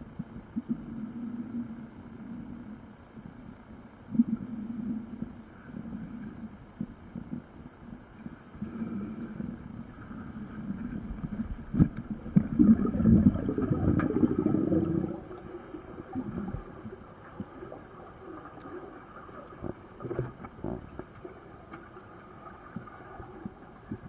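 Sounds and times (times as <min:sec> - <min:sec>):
muffled water gurgling and bubbling: 0:00.0 - 0:24.0.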